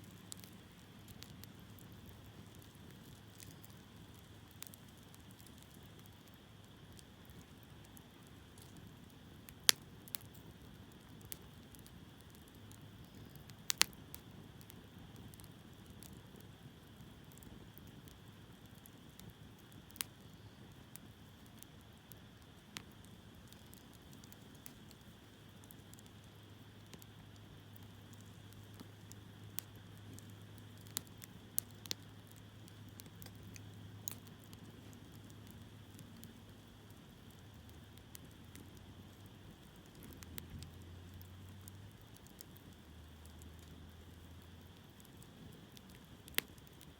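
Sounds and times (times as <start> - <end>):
burning wood popping and crackling: 0.0 - 46.9
campfire hissing: 0.0 - 46.9.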